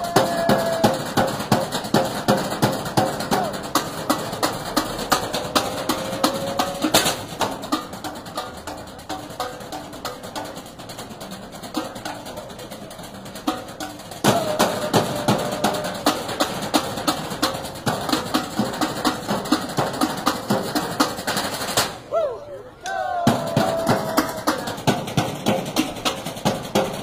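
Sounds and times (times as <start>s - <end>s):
sticks drumming on metal trash cans: 0.0s - 22.0s, 23.3s - 27.0s.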